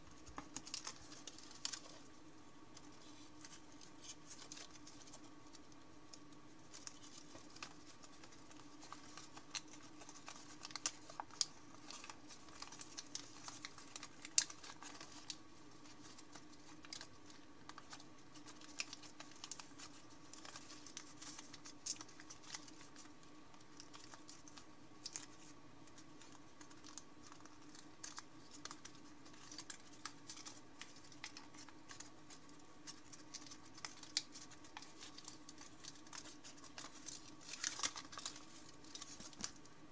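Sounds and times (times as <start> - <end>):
paper being folded and creased: 0.0 - 2.1, 2.8 - 39.6
faint steady hum: 0.0 - 39.9.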